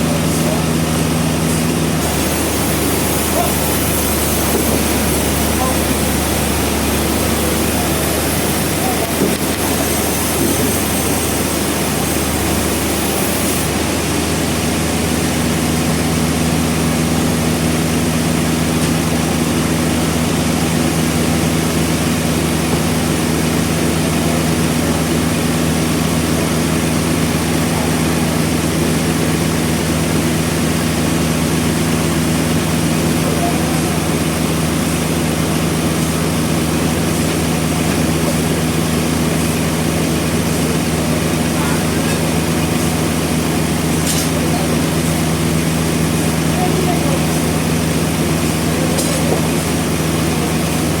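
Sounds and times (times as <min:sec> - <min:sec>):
sawmill machinery cutting log: 0:00.0 - 0:51.0.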